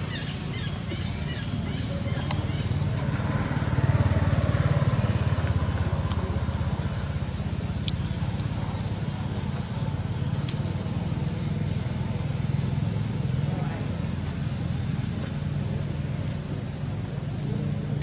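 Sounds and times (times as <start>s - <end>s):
engine droning: 0.0s - 18.0s
thin steady high tone: 0.0s - 18.0s.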